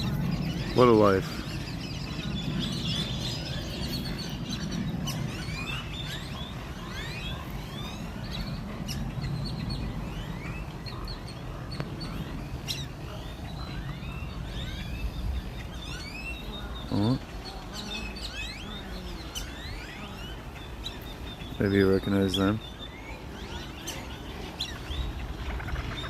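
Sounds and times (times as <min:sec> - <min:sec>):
flock of birds chirping: 0:00.0 - 0:26.0
steady low rumble: 0:00.0 - 0:26.0.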